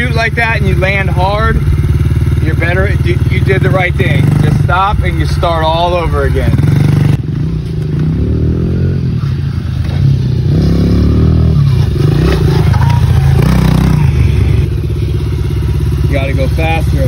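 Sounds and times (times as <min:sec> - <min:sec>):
pit bike engine revving: 0:00.0 - 0:17.0.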